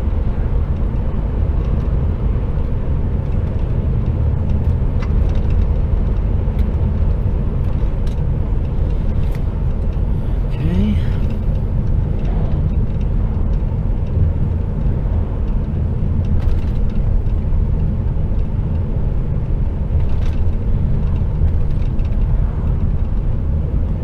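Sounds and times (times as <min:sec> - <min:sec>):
lorry engine and road noise: 0:00.0 - 0:24.0.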